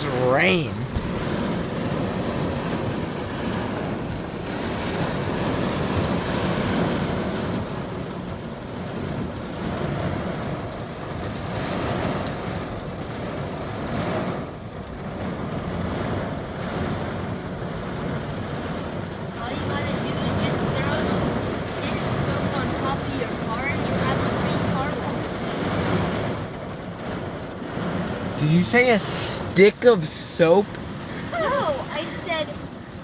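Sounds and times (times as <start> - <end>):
heavy rain pouring on a car: 0.0 - 33.0.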